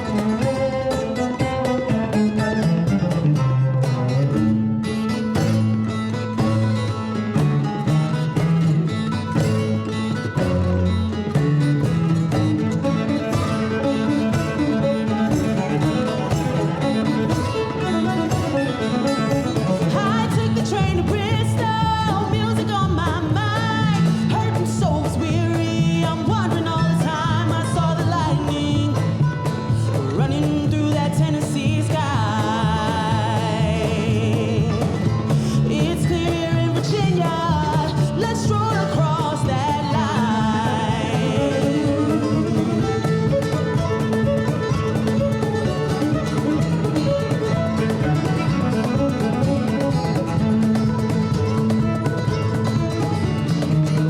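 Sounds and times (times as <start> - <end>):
string band playing: 0.0 - 54.0.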